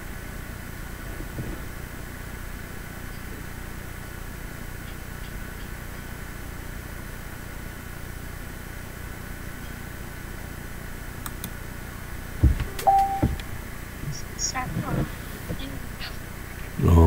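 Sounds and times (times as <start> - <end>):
room tone hiss and hum: 0.0 - 17.0.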